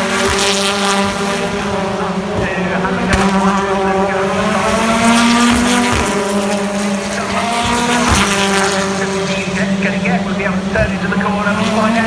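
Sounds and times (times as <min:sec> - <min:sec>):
racing car engines passing: 0:00.0 - 0:12.0.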